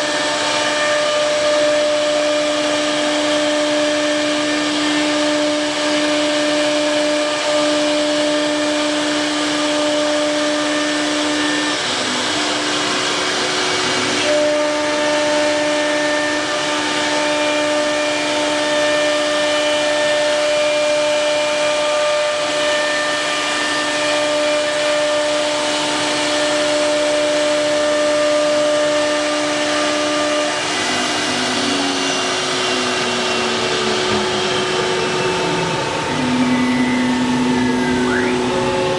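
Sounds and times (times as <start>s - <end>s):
motor tones shifting in pitch: 0.0s - 38.9s
wood router spindle whine: 0.0s - 38.9s.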